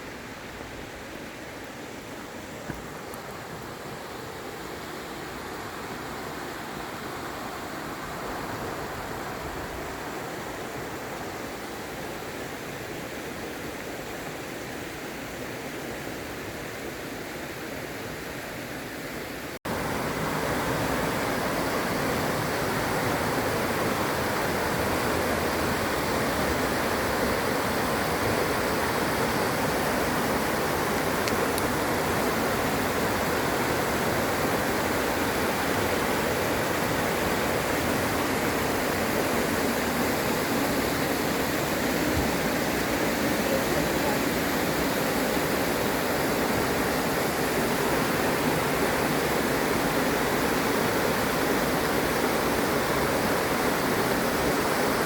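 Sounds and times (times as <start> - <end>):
rushing waterfall water: 0.0 - 55.0.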